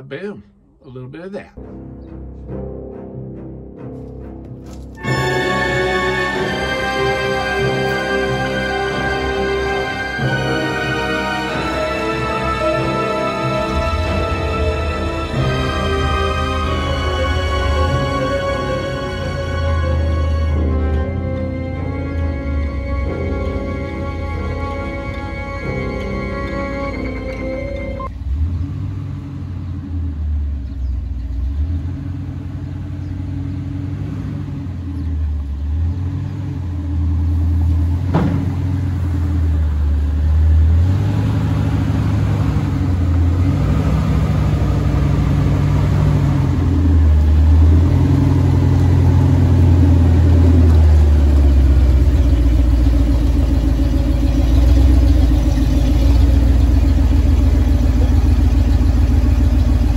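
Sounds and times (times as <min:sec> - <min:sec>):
pickup truck engine running: 0:01.6 - 0:59.9.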